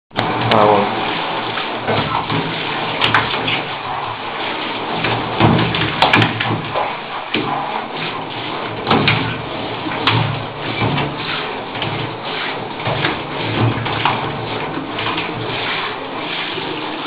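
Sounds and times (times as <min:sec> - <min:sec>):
sharp knocks or splashes: 0:00.1 - 0:17.0
shower water hissing into bathtub: 0:00.2 - 0:17.0.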